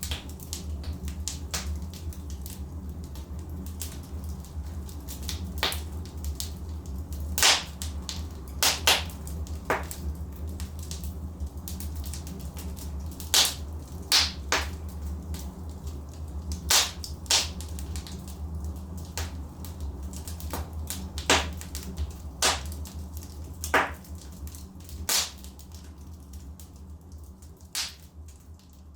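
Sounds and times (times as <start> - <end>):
fire low rumble: 0.0 - 28.9
logs crackling and popping: 0.0 - 28.9.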